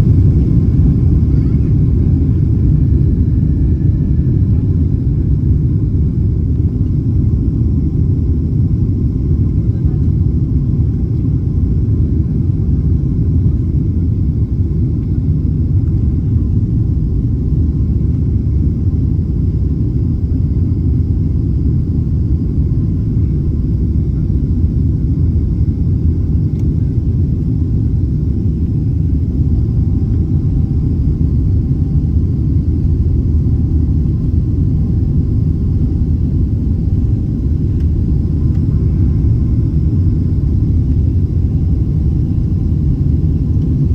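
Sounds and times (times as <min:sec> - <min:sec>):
airliner cabin rumble: 0:00.0 - 0:43.9
faint steady whine: 0:00.0 - 0:43.9.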